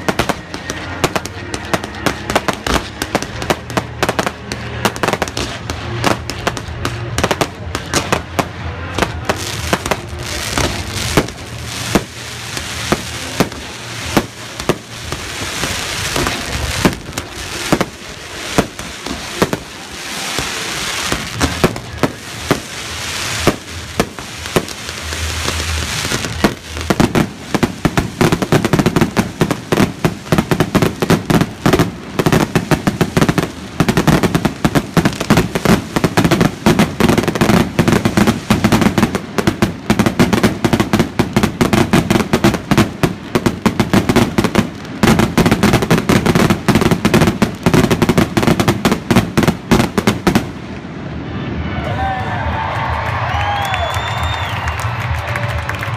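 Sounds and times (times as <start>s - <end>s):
hissing crackle: 0.0s - 50.9s
fireworks bursting: 0.0s - 51.6s.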